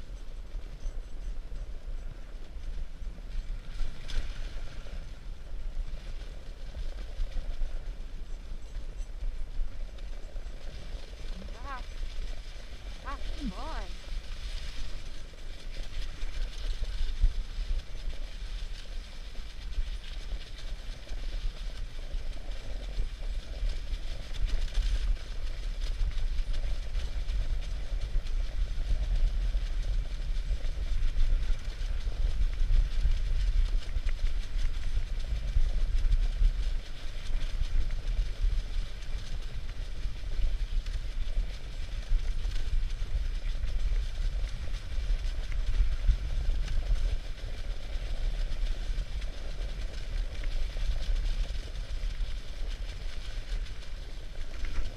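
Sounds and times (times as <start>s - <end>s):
sled rattling and rumbling: 0.0s - 54.9s
sled runners hissing on snow: 0.0s - 54.9s
wind buffeting microphone: 0.0s - 54.9s.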